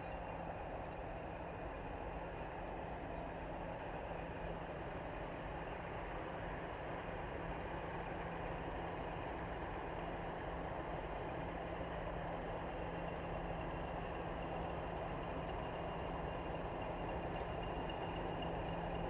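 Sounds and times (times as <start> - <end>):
diesel locomotive engine humming: 0.0 - 19.0.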